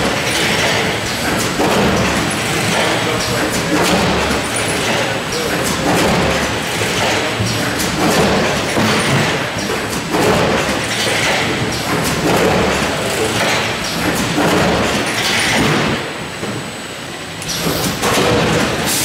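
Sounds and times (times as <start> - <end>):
packing machine clattering: 0.0 - 16.1, 17.4 - 19.0.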